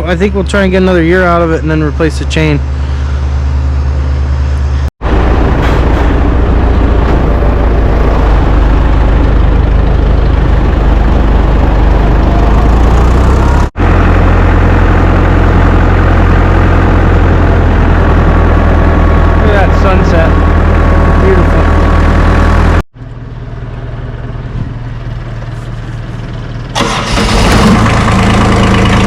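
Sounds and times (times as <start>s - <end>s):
farm machine engine running: 0.0s - 29.0s.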